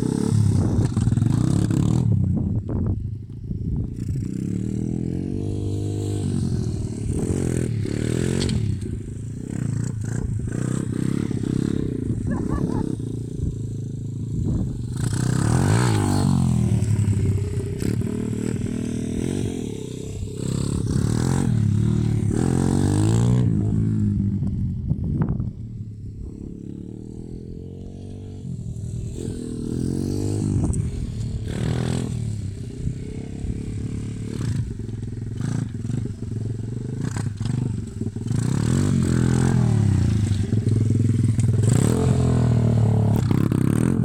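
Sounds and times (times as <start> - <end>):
motorbike engine revving: 4.0 - 24.2, 26.2 - 44.0.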